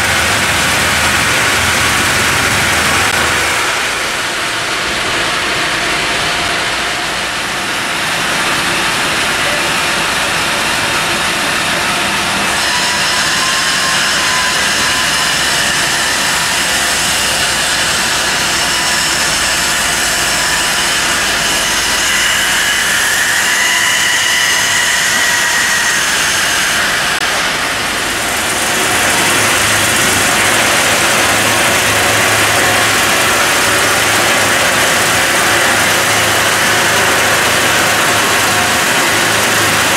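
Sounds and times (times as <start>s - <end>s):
bandsaw low hum: 0.0s - 39.9s
sawmill machinery running: 0.0s - 39.9s.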